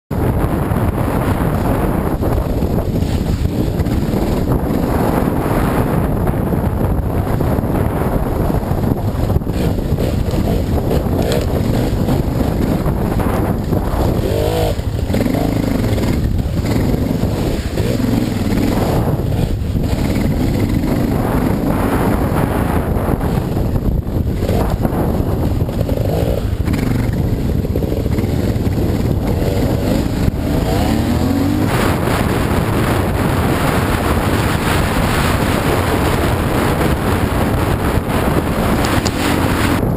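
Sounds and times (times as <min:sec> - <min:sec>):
heavy rumble: 0:00.1 - 0:39.9
dirt bike engine revving: 0:00.2 - 0:39.9.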